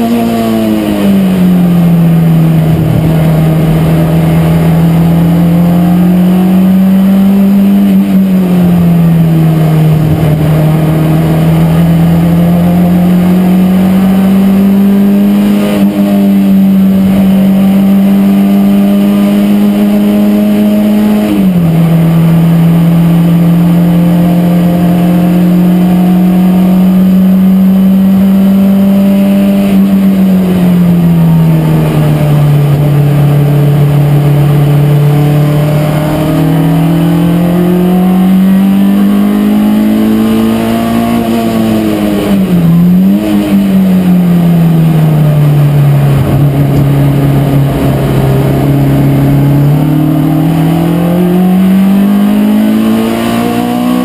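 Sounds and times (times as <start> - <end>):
race car engine running hard: 0.0 - 54.0.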